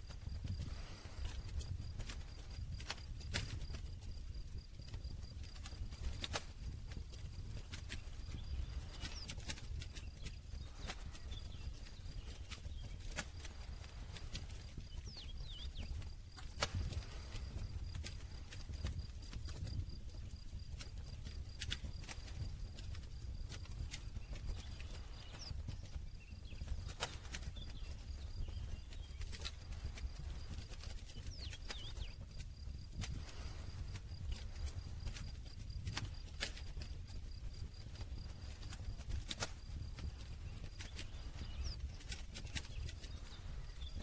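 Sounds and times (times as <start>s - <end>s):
burning wood crackling: 0.0s - 44.0s
campfire flames rumbling: 0.0s - 44.0s.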